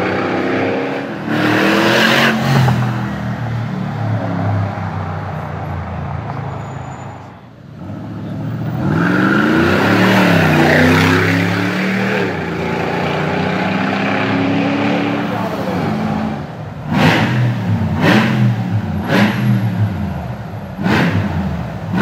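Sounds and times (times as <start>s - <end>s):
car engine revving: 0.0s - 5.1s, 7.8s - 22.0s.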